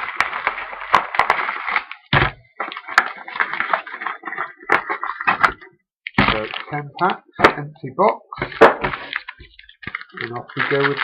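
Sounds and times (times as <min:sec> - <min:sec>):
wrappers crinkling: 0:00.0 - 0:07.2, 0:08.5 - 0:11.0.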